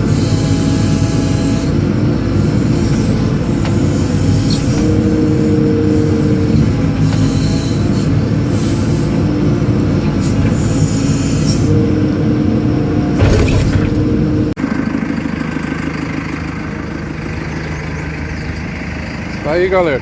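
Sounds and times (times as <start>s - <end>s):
diesel engine running hard: 0.0s - 20.0s
hydraulic whine: 0.0s - 20.0s.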